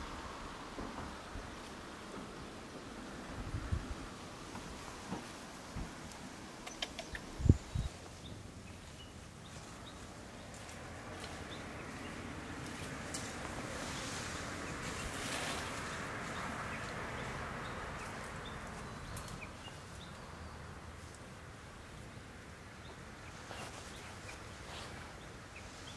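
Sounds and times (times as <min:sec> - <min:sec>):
broad rushing noise: 0:00.0 - 0:25.9.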